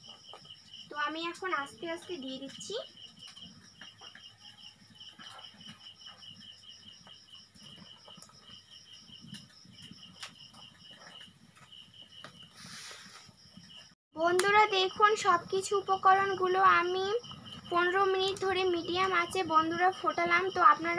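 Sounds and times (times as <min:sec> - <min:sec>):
faint insect chirping: 0:00.0 - 0:20.9.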